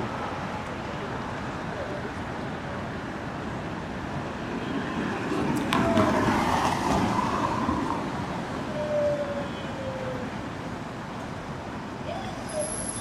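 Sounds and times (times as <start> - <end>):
passing vehicle noise: 0.0 - 13.0.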